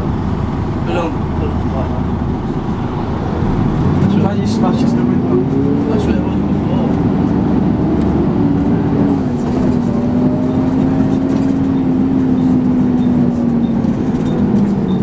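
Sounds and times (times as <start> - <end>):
bus engine droning whine: 0.0 - 15.0.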